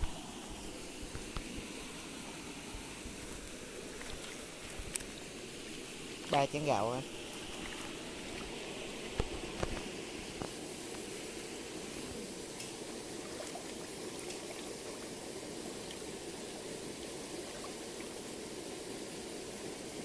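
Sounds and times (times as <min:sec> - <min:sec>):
rice swishing in water: 0:00.0 - 0:20.0
stream running over stones: 0:00.0 - 0:20.0.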